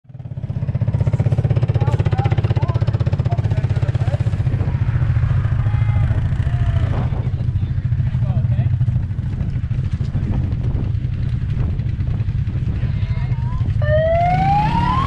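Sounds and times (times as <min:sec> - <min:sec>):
atv engine running: 0:00.1 - 0:15.0.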